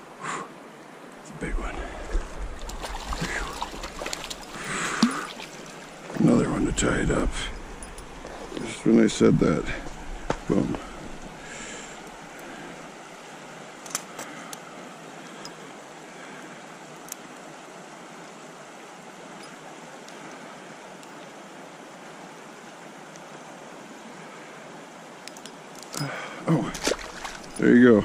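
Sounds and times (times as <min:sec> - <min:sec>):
stream flowing: 0:00.0 - 0:28.0.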